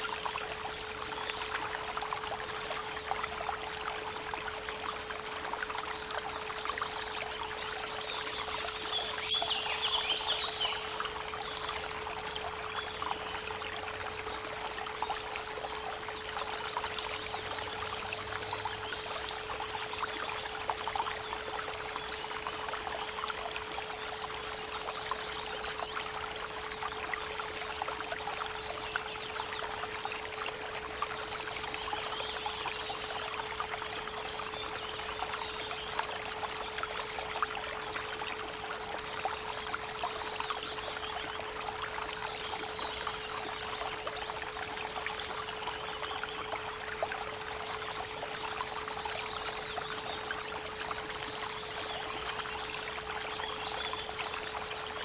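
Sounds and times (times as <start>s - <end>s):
creek water trickling and splashing: 0.0s - 55.0s.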